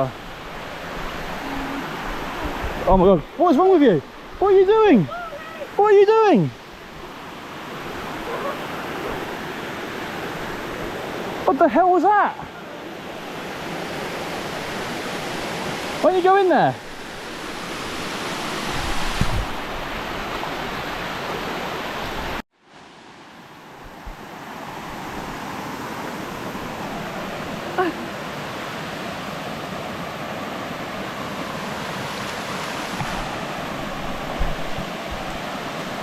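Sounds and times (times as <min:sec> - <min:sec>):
waterfall rushing over rocks: 0:00.0 - 0:23.1, 0:24.1 - 0:36.0.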